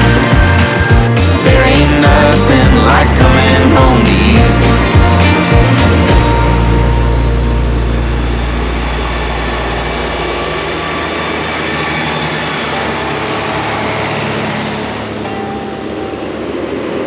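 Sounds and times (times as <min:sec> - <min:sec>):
deep low hum: 0:00.0 - 0:17.0
tractor engines droning: 0:00.0 - 0:17.0.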